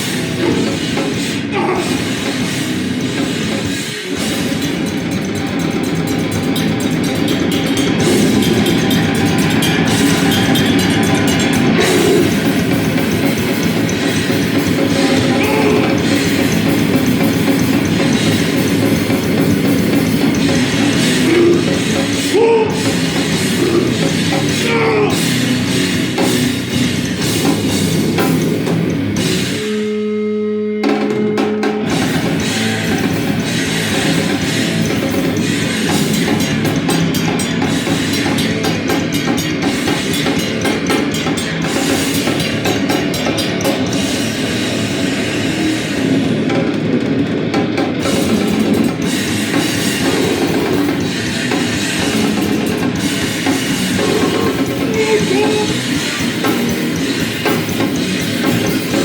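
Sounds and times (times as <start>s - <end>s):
live heavy rock band: 0.0s - 59.0s.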